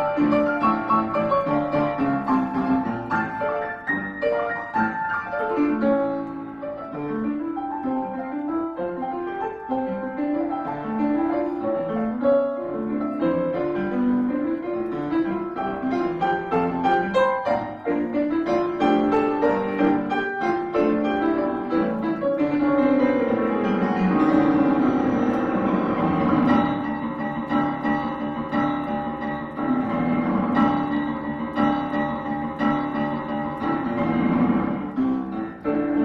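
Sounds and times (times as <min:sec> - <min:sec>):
solo piano: 0:00.0 - 0:36.0.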